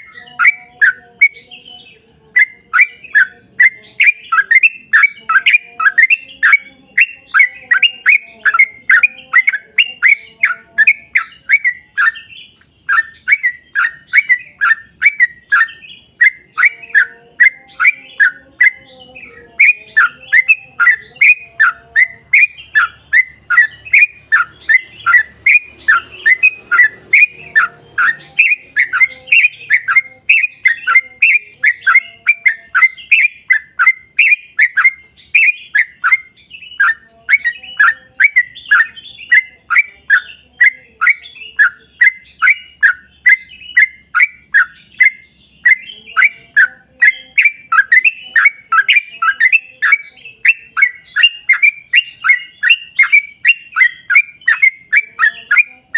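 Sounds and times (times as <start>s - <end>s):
bird singing falling chirps: 0.0s - 55.9s.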